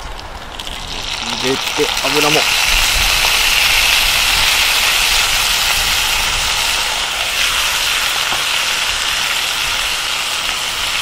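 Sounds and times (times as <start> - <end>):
food sizzling in a pot: 0.5 - 11.0.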